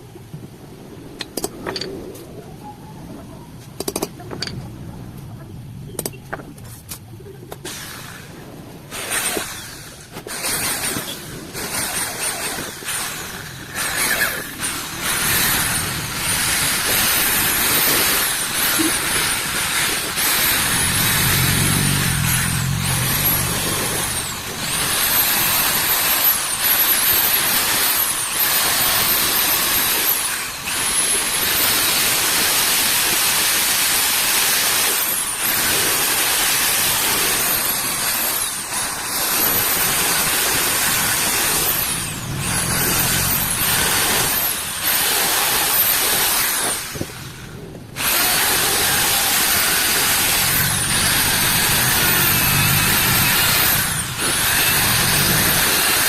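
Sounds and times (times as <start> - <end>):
power tool grinding metal: 8.9 - 56.0.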